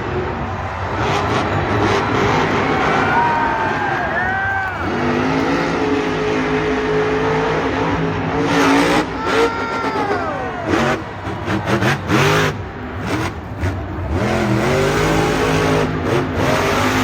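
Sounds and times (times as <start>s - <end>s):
rush of noise: 0.0s - 15.7s
truck engine revving hard: 0.0s - 17.0s.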